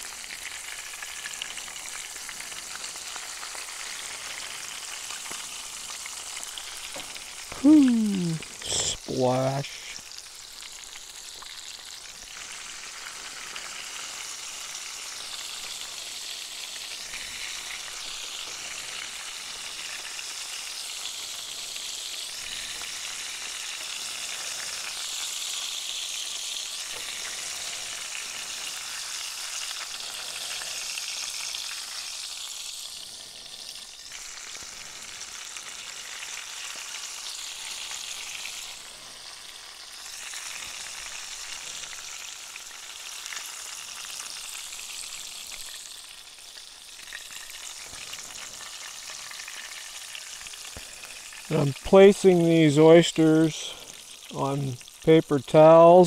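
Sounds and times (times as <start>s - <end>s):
oysters sizzling in hot oil: 0.0s - 56.0s.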